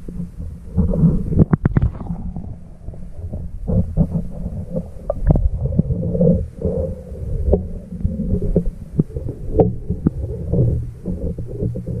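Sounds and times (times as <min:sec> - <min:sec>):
muffled underwater rumble: 0:00.0 - 0:12.0.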